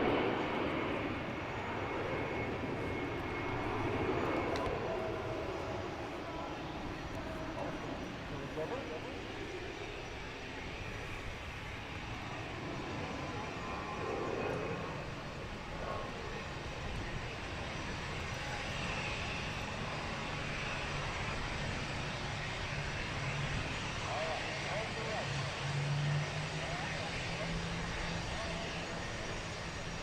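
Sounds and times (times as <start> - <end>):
piston aircraft engines droning: 0.0 - 30.0.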